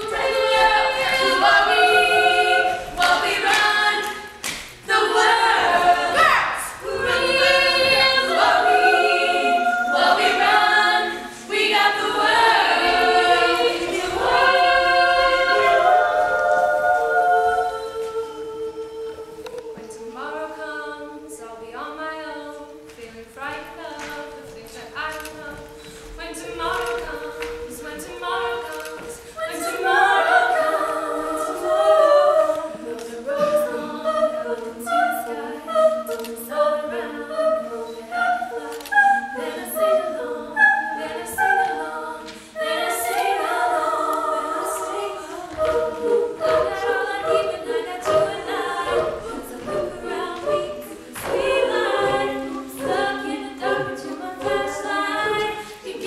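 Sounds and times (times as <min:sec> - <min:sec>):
women singing a cappella: 0:00.0 - 0:56.0.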